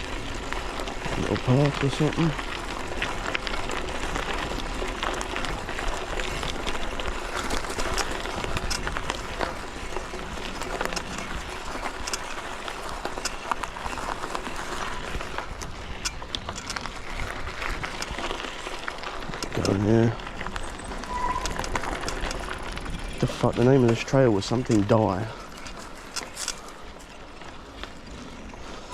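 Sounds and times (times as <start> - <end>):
bike clicks and rattles: 0.0 - 28.9
bike tyre noise on trail: 0.0 - 28.9.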